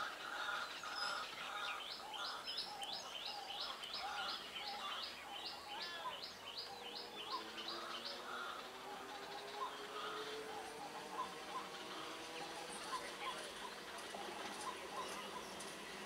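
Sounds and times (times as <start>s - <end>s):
faint background noise: 0.0s - 16.0s.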